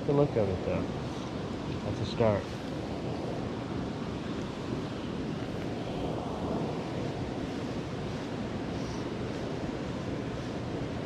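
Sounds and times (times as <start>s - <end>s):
wind buffeting microphone: 0.9s - 11.0s.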